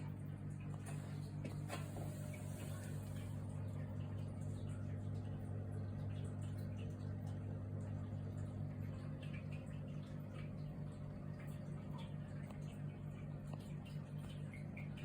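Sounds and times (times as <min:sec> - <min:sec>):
aquarium equipment hum: 0:00.0 - 0:15.0.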